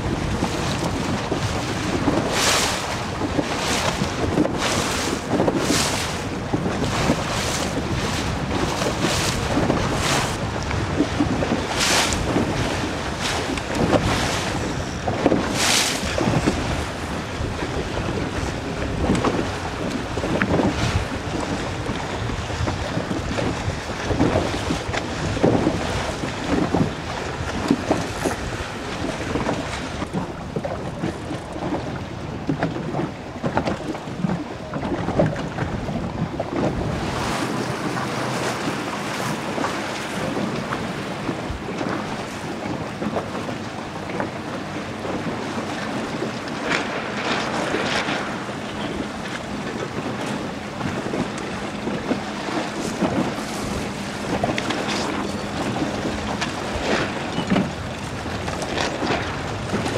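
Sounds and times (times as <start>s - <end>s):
water splashing: 0.0s - 31.0s, 36.3s - 59.9s
wind buffeting microphone: 0.0s - 59.9s.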